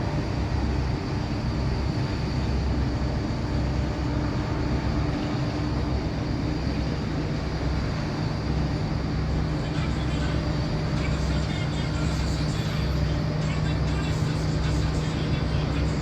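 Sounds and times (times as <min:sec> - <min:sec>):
faint constant hums: 0:00.0 - 0:16.0
low mechanical rumble: 0:01.8 - 0:16.0.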